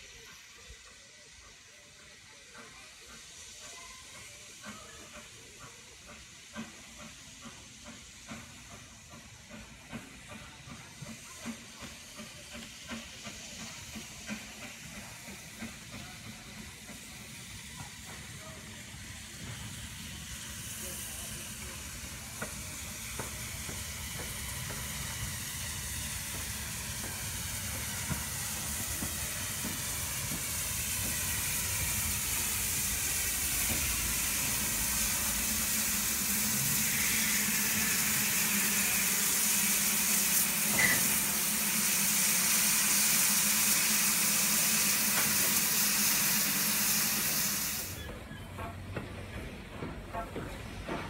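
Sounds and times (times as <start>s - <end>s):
steady hiss of steam: 0.0s - 51.0s
steam locomotive passing: 0.0s - 51.0s.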